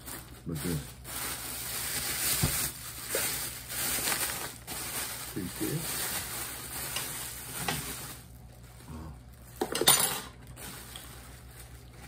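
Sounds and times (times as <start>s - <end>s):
paper bag rustling and crinkling: 0.0s - 12.0s.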